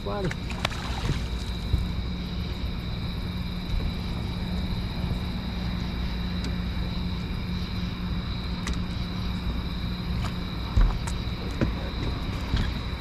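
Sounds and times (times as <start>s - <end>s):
mechanical drone with high whine: 0.0s - 13.0s.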